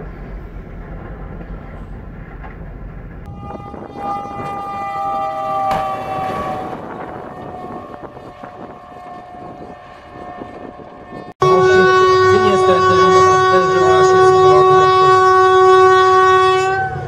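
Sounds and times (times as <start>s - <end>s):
passing train rumble: 0.0s - 17.0s
locomotive horn chord: 3.2s - 17.0s.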